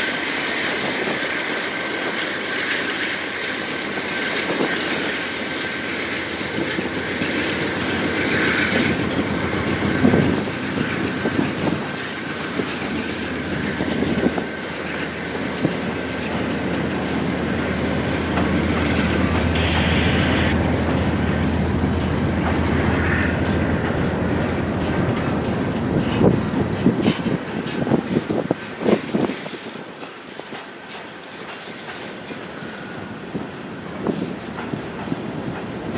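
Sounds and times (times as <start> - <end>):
freight train rolling by: 0.0 - 35.9
wheels clacking over rail joints: 0.0 - 35.9.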